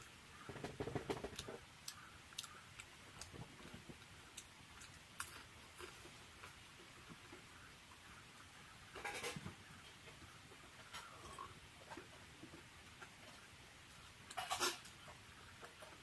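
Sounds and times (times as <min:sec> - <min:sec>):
soft chewing with lip smacks: 0:00.0 - 0:16.0.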